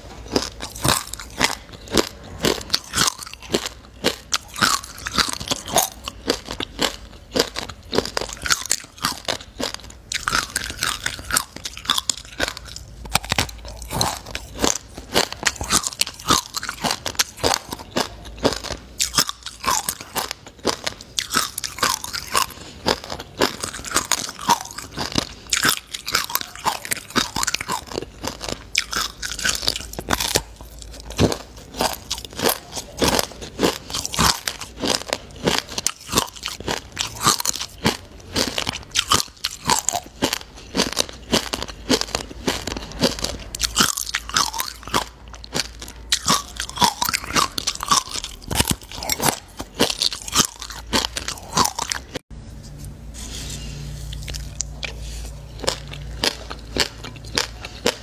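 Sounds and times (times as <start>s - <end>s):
crunching and chewing seeds: 0.0s - 58.0s.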